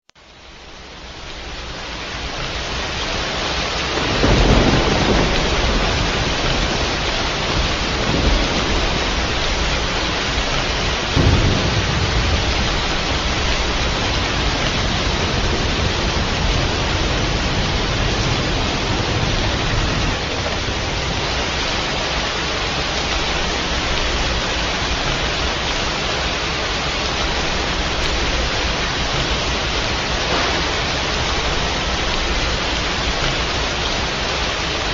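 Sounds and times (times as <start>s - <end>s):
heavy rain: 0.1s - 34.9s
thunder rumbling: 0.5s - 34.9s.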